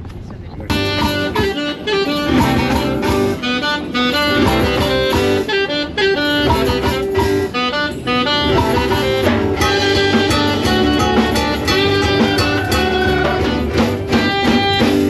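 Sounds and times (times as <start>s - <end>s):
melodic instrumental music: 0.7s - 15.0s.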